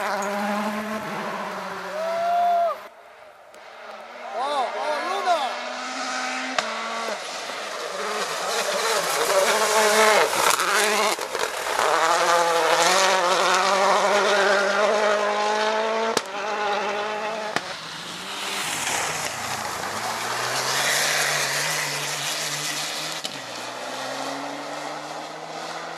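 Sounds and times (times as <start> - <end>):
rally car engine at full throttle: 0.0 - 25.9
second rally car engine: 0.0 - 25.9.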